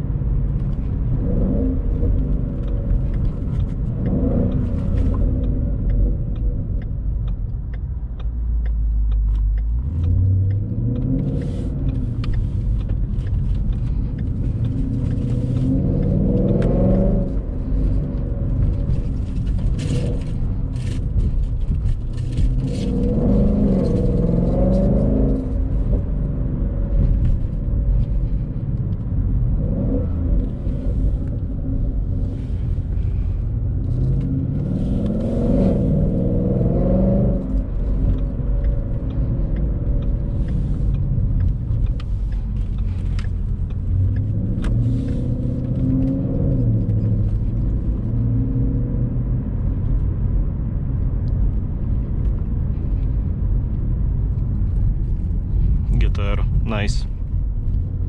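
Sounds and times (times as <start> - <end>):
car engine rumble from inside cabin: 0.0 - 58.0
road noise: 0.0 - 58.0.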